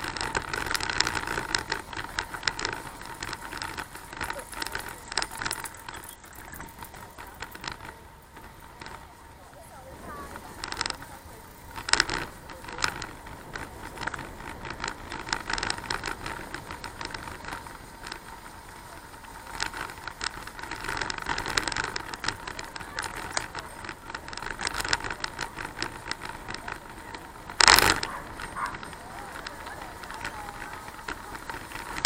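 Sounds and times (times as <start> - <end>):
bicycle rattling and clicking: 0.0 - 32.0
loud clatter: 0.0 - 32.0.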